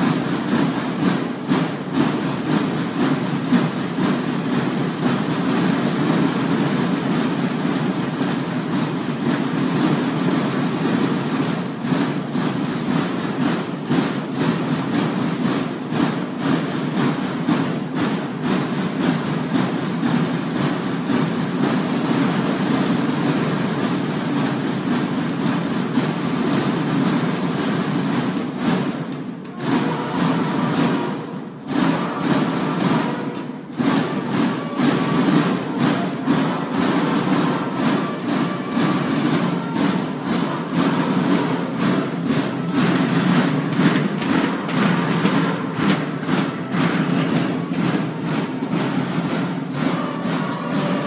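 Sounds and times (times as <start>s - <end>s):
marching snare drums: 0.0s - 51.0s.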